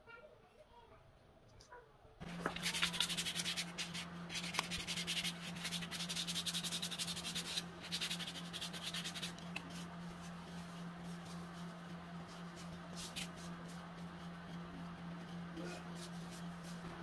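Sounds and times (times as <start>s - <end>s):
steady low hum: 2.1s - 17.0s
sandpaper rubbing clay: 2.2s - 17.0s.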